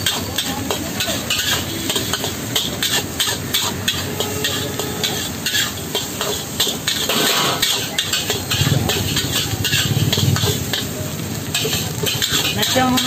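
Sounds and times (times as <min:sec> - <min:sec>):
metal ladle scraping a wok: 0:00.0 - 0:13.0
sizzling hiss: 0:00.0 - 0:13.0.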